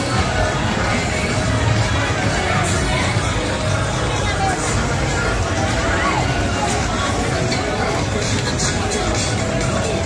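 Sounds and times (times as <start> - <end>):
loud music with heavy bass: 0.0 - 10.0.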